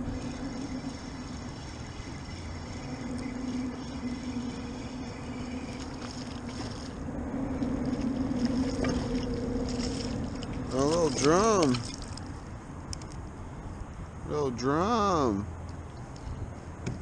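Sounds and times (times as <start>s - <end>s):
boat motor humming: 0.0s - 14.2s
water noise: 0.0s - 17.0s
wind: 0.0s - 17.0s.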